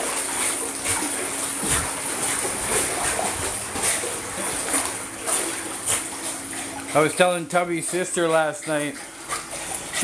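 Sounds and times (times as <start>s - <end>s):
dog paddling in pool water: 0.0s - 10.0s.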